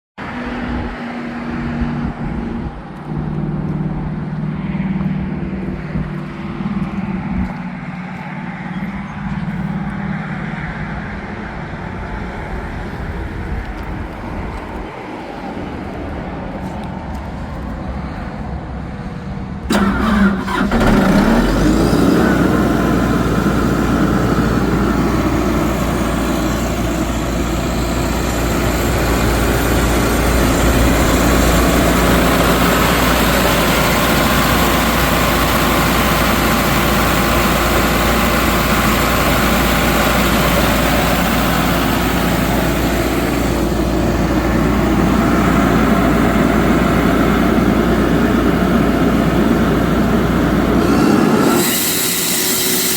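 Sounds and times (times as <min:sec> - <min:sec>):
diesel engine starting and running: 0:00.2 - 0:52.9.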